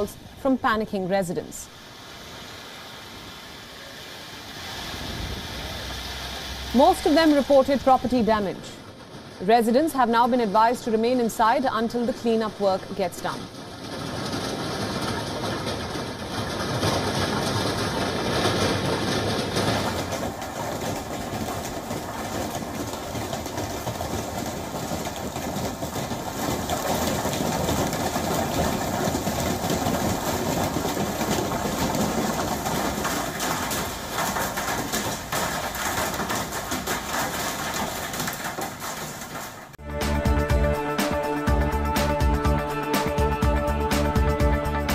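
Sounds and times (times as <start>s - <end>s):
hail and heavy rain: 1.7s - 39.8s.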